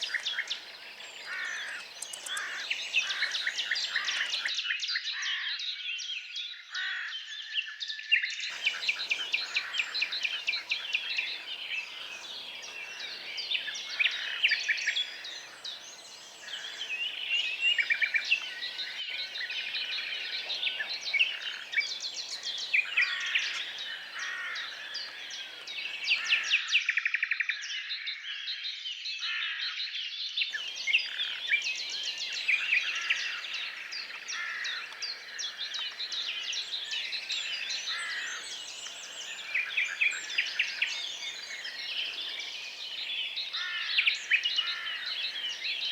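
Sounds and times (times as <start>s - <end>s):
songbirds chorus: 0.0s - 5.4s, 8.4s - 26.9s, 30.5s - 45.9s.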